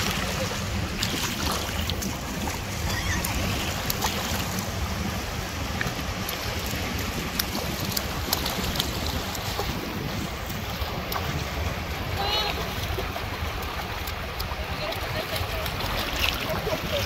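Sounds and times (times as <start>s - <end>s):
hands slapping water: 0.0s - 4.8s, 5.6s - 17.0s
sea water washing at shoreline: 0.0s - 17.0s
wind rumbling on microphone: 0.0s - 17.0s.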